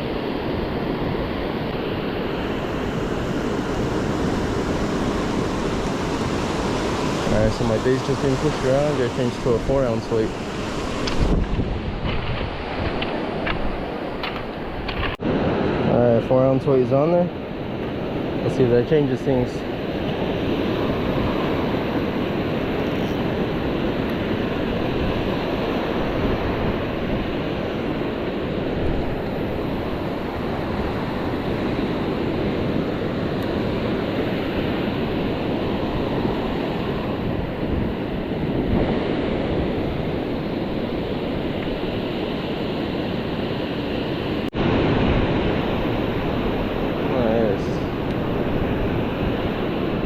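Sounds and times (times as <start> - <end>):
wind buffeting microphone: 0.0 - 15.9, 19.6 - 50.0
ocean surf washing onto beach: 0.0 - 50.0.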